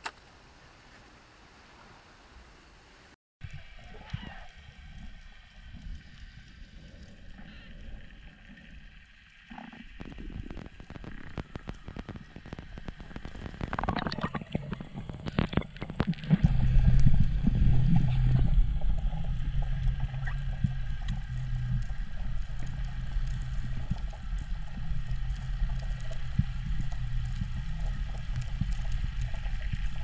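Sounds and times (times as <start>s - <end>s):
low underwater rumble with hum: 3.4s - 30.0s
underwater splashing and bubbles: 3.4s - 30.0s.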